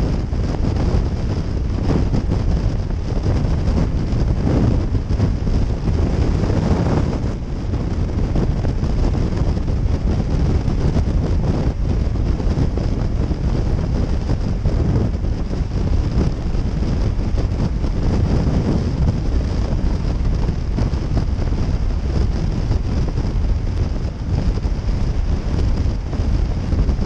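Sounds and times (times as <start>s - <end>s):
motorcycle engine and road rumble: 0.0s - 27.0s
wind buffeting microphone: 0.0s - 27.0s.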